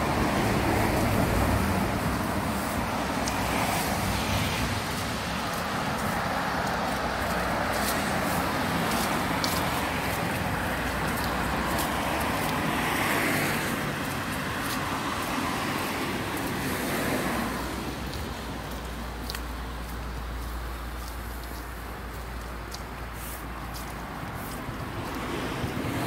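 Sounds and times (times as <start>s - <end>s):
vehicle passing: 0.0s - 22.2s
road traffic noise: 0.0s - 26.0s.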